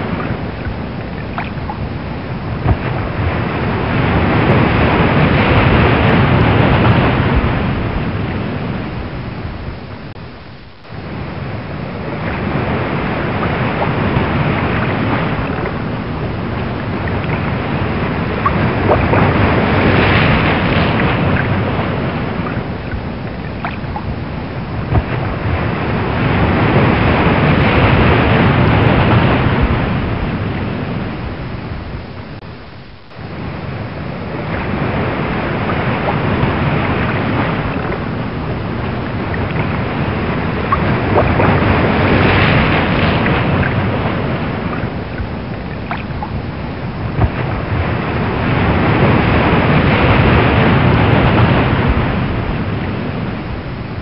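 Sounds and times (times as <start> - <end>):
ocean waves: 0.0 - 54.0
wind: 0.0 - 54.0.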